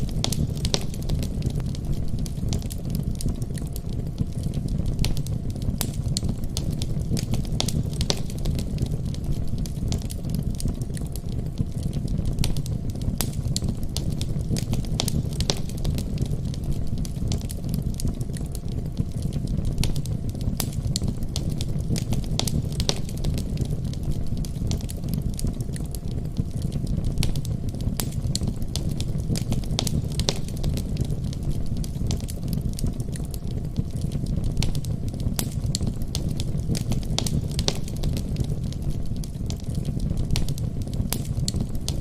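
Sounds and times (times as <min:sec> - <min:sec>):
fire crackling and popping: 0:00.0 - 0:42.0
fire flame rumble: 0:00.0 - 0:42.0.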